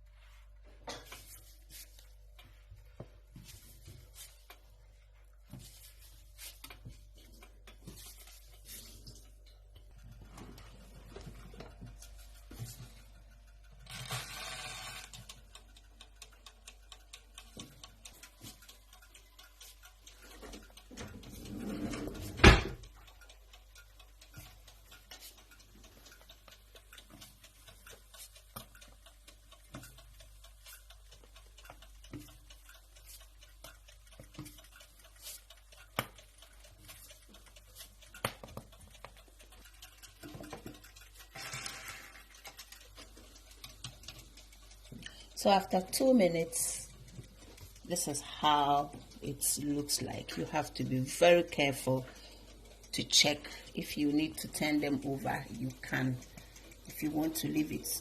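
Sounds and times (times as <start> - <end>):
light clicks and taps: 0.6 - 13.8, 15.1 - 58.0.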